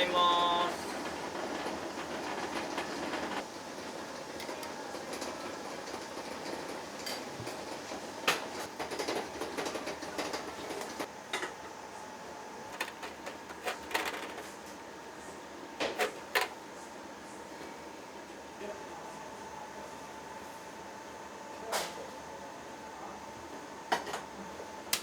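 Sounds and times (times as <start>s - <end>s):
ventilation hum: 0.0s - 25.0s.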